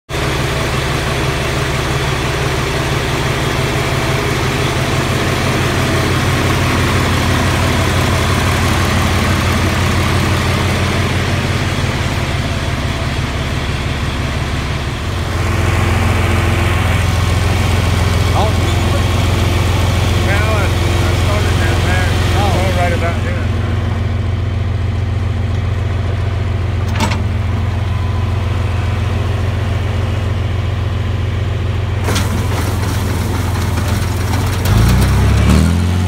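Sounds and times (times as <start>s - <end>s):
diesel engine idling: 0.1s - 36.0s.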